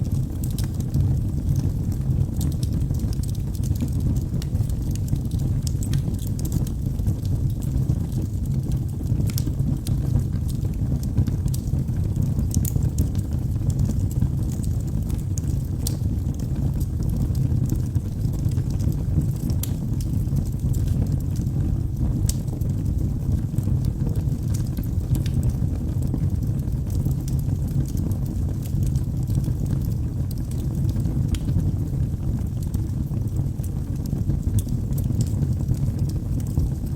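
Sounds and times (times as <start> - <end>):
low rumble of flame: 0.0 - 36.9
wood crackling and popping: 0.0 - 36.9.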